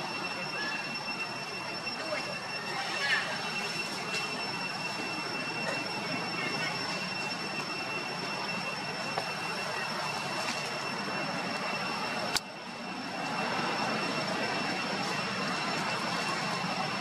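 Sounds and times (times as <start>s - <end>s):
insect chorus drone: 0.0s - 17.0s
thin high whine: 0.0s - 17.0s.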